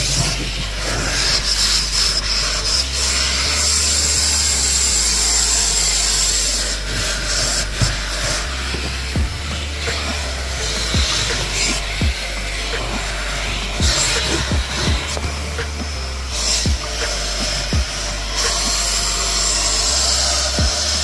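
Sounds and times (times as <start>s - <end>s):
nozzle scraping carpet: 0.0s - 21.0s
vacuum cleaner running: 0.0s - 21.0s.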